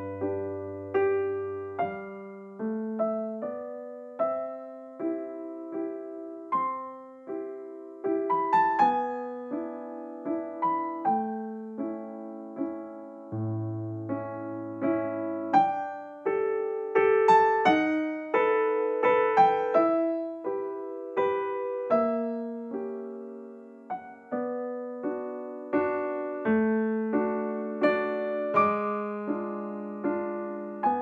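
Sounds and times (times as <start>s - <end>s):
slow piano melody: 0.0s - 31.0s.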